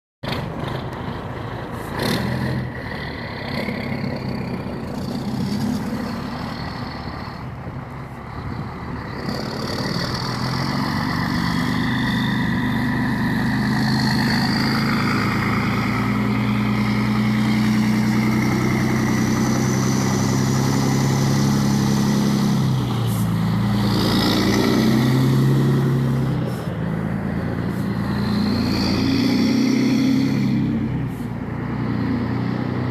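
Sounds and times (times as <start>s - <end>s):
diesel truck engine revving: 0.2s - 32.9s.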